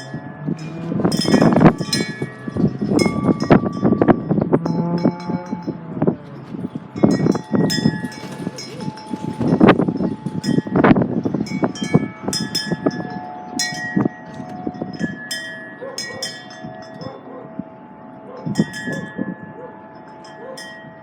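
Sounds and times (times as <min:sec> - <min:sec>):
metal wind chimes ringing: 0:00.0 - 0:21.0
wind buffeting microphone: 0:00.0 - 0:21.0.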